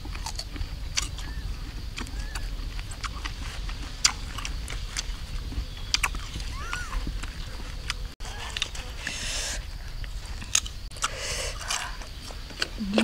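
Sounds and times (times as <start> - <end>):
crunchy fruit being chewed: 0.0 - 13.0.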